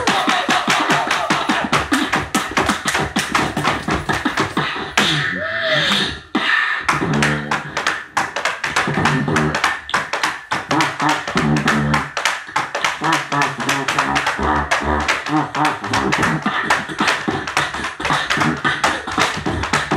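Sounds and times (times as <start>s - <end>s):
tap dancing on wooden board: 0.0s - 5.2s, 5.9s - 19.9s
beatboxing into a microphone: 0.0s - 19.9s.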